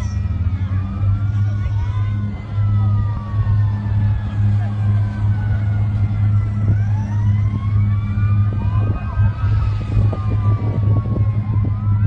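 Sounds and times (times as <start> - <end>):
emergency sirens wailing: 0.0 - 12.0
loud low drone: 0.0 - 12.0.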